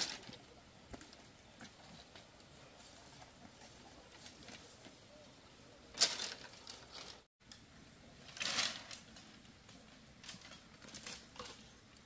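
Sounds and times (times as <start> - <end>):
rustling: 0.0 - 7.3, 8.2 - 12.0.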